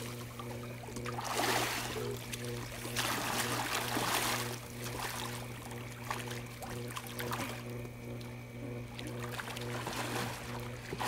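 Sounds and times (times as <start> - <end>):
low hum: 0.0 - 11.0
pool water splashing: 0.0 - 11.0.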